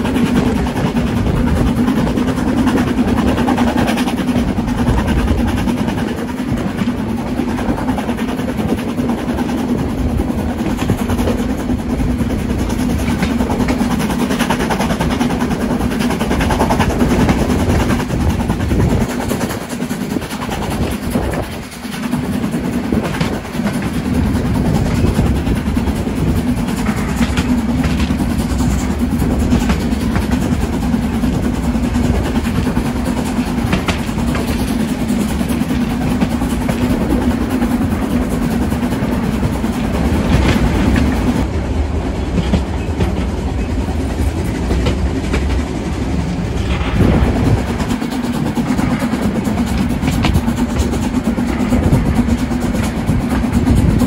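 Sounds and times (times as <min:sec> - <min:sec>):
train rumbling and rattling: 0:00.0 - 0:54.0.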